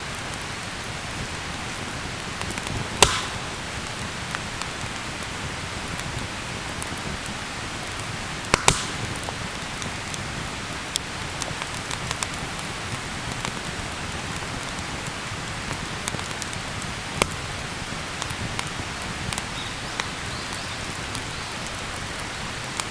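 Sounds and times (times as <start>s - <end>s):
campfire hissing: 0.0s - 22.9s
fire crackling and popping: 0.0s - 22.9s.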